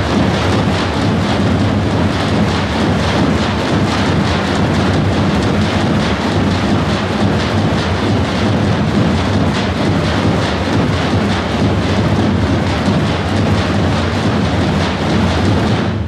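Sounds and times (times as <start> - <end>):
drums in fast dense roll: 0.0 - 16.0.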